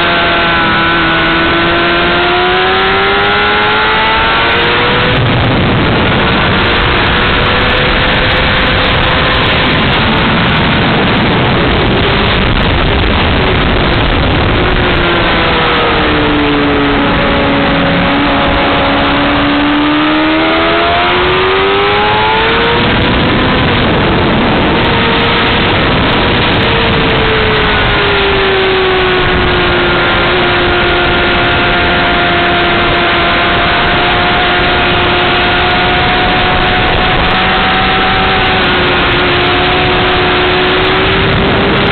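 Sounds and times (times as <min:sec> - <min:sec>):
motorcycle engine running hard: 0:00.0 - 0:41.9
wind noise: 0:00.0 - 0:41.9.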